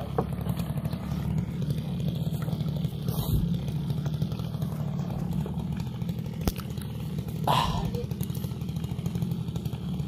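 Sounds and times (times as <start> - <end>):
two-stroke boat motor running: 0.0 - 10.0.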